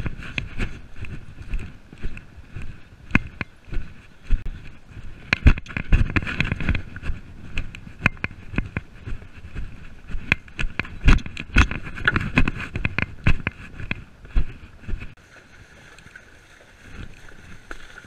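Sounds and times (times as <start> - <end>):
saddle and bridle rattling: 0.0 - 15.2
hoofbeats on grass: 0.0 - 18.0.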